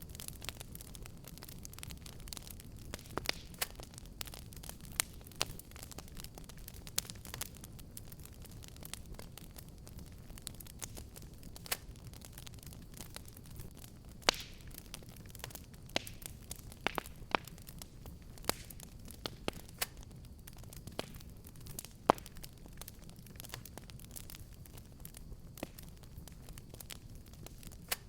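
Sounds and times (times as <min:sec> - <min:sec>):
fire crackling in a fireplace: 0:00.0 - 0:28.0.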